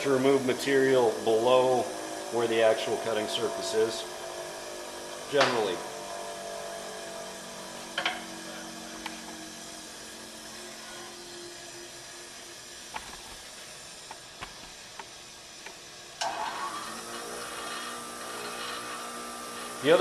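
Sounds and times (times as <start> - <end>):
tool grinder humming: 0.0 - 20.0.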